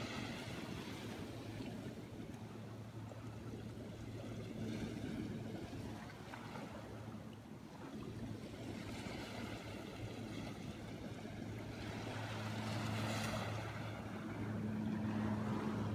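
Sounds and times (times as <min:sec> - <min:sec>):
small waves washing on shore: 0:00.0 - 0:15.9
steady low hum: 0:00.0 - 0:15.9.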